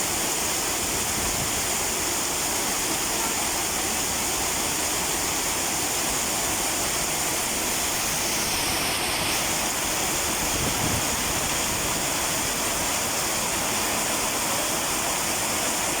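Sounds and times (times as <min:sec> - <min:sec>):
heavy rain falling: 0:00.0 - 0:16.0
water running through gutter: 0:00.0 - 0:16.0.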